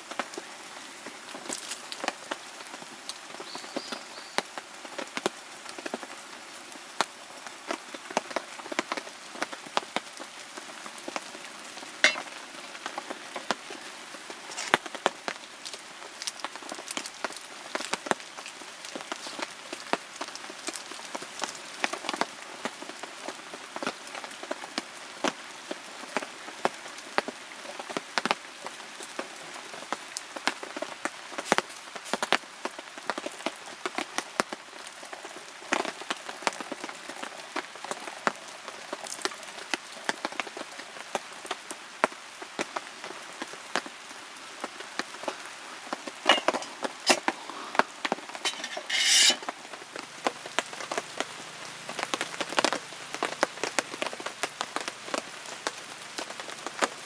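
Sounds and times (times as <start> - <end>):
rain drops tapping: 0.0 - 48.7, 49.4 - 57.0.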